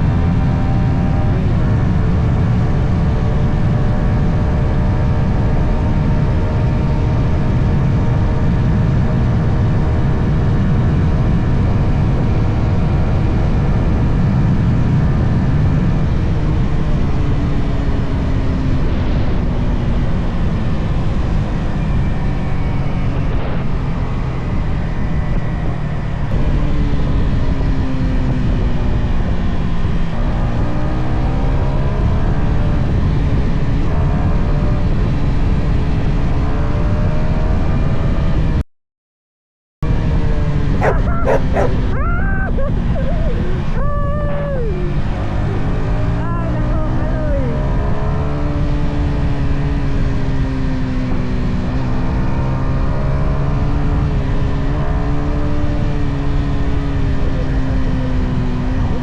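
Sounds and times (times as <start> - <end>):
motorcycle engine and exhaust: 0.0 - 38.6, 39.8 - 59.0.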